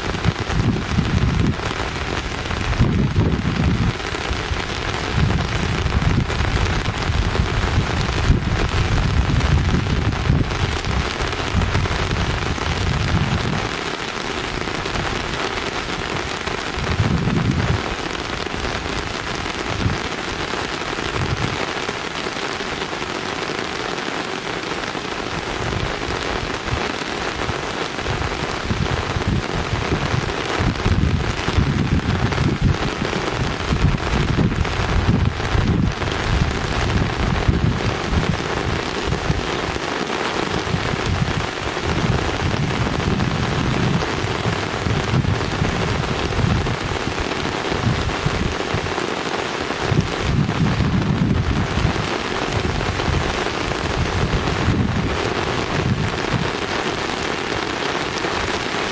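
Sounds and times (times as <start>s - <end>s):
rain-like hiss: 0.0s - 58.9s.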